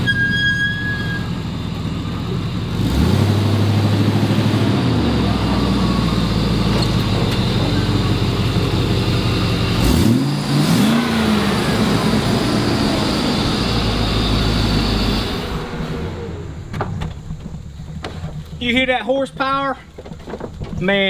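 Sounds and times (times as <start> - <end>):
truck engine idling and revving: 0.0 - 20.8.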